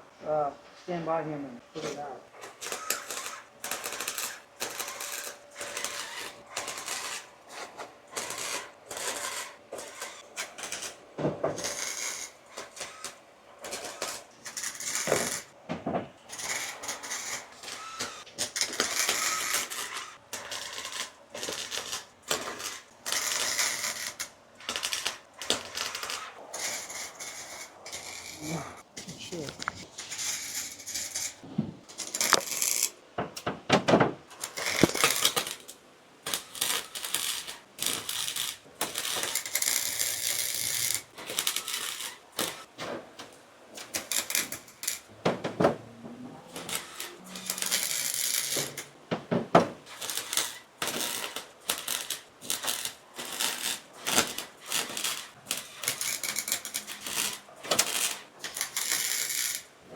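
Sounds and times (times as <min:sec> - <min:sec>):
welding arc crackling: 0:01.8 - 0:15.6, 0:16.3 - 0:33.0, 0:34.3 - 0:42.7, 0:43.8 - 0:45.2, 0:46.4 - 0:59.7.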